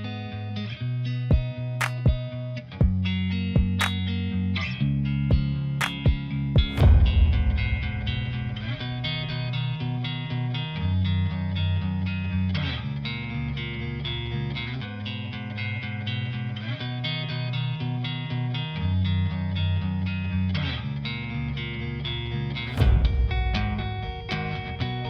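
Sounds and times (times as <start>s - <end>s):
guitar-led instrumental music: 0.0s - 25.0s.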